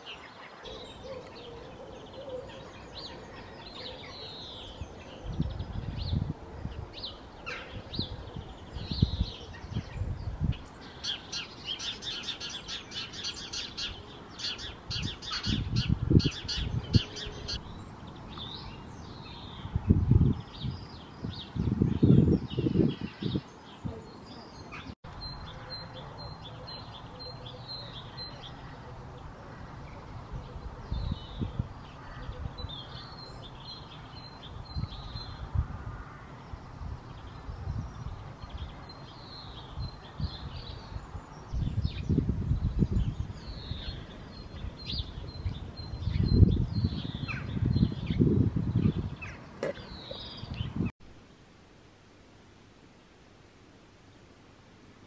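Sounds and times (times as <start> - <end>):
songbirds chirping and singing: 0.0 - 50.9.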